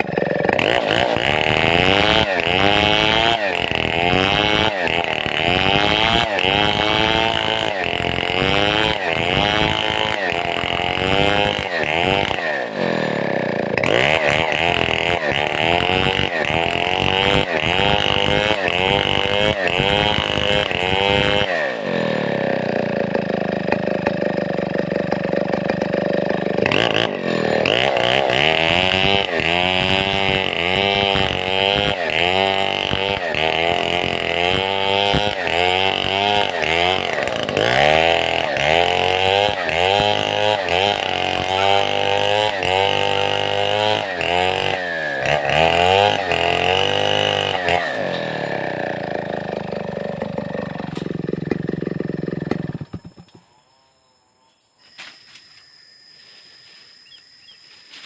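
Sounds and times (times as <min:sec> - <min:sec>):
chainsaw revving and idling: 0:00.0 - 0:53.4.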